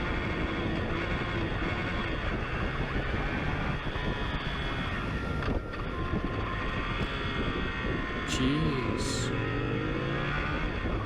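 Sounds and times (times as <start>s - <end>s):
motorcycle engine at speed: 0.0s - 11.0s.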